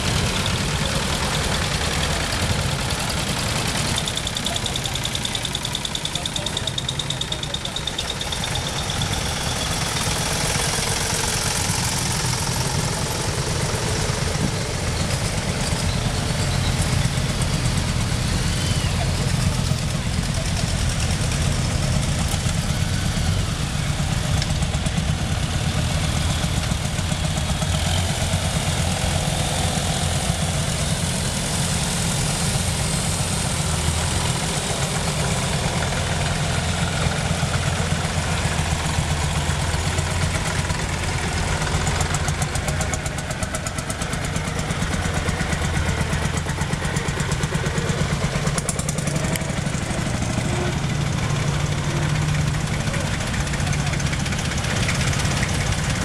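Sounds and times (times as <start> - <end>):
tractor engines rumbling: 0.0 - 56.0.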